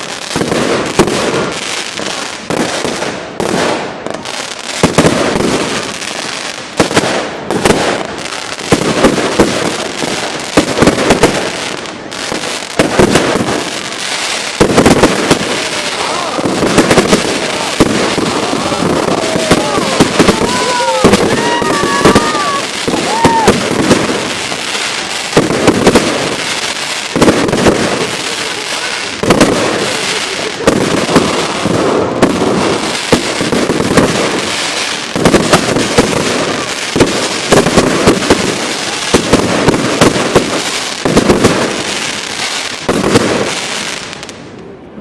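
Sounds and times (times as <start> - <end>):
fireworks crackling and banging: 0.0 - 45.0.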